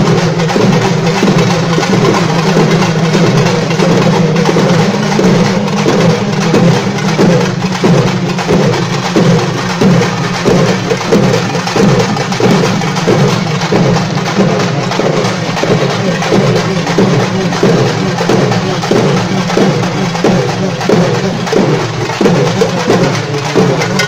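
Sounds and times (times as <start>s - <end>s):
drum stick strokes: 0.0s - 24.0s
drum troupe playing: 0.0s - 24.0s.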